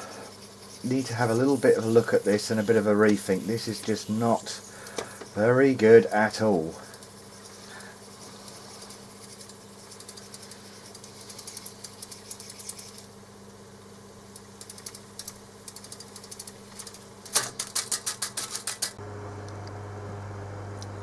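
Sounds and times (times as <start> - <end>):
tape recorder hum: 0.0 - 17.8, 18.8 - 21.0.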